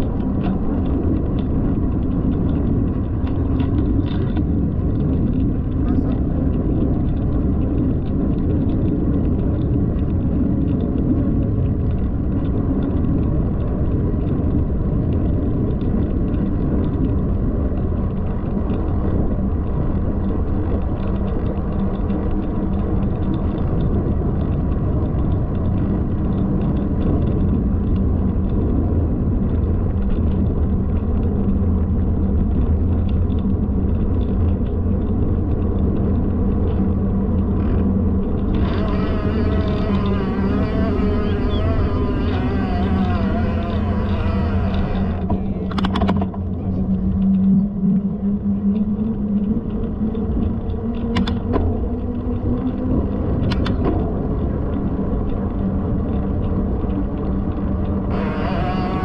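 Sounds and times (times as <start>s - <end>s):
faint rattling ticks: 0.0s - 48.1s, 48.7s - 59.0s
wind rumble: 0.0s - 59.0s.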